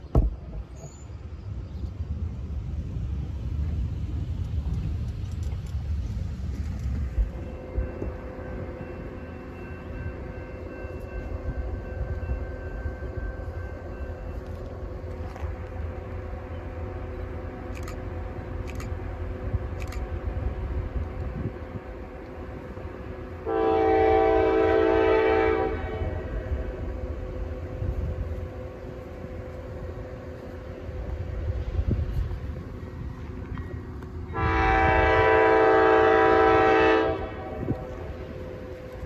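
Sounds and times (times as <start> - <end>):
freight train rumbling: 0.0 - 39.0.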